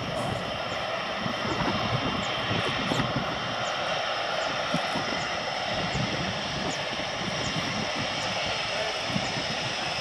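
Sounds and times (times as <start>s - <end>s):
high jet whine: 0.0s - 10.0s
jet engines rushing: 0.0s - 10.0s.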